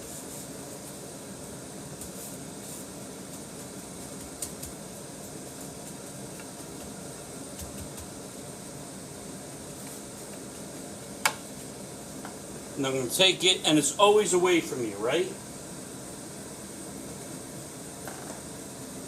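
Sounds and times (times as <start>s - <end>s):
hiss and hum: 0.0s - 19.0s.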